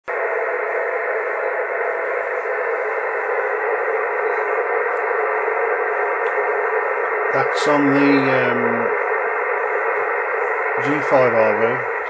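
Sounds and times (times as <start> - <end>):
radio static hiss: 0.1 - 12.0.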